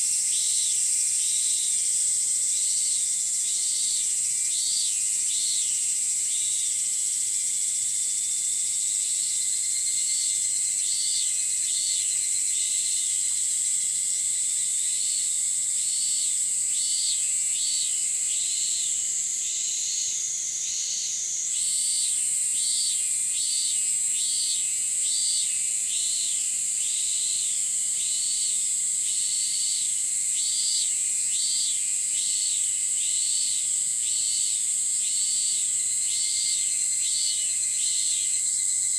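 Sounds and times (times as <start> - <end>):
high-pitched insect drone: 0.0 - 38.9
pulsing insect call: 0.0 - 38.9.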